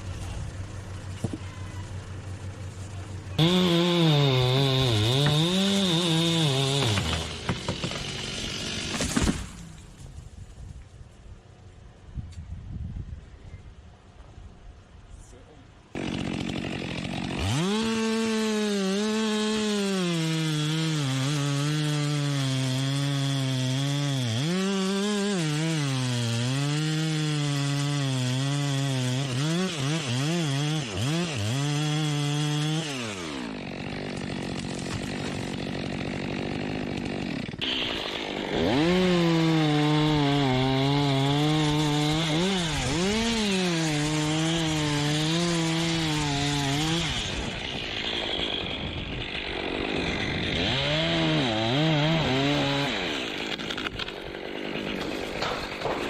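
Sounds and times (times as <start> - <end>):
chainsaw cutting wood: 2.6 - 10.0, 15.9 - 56.0.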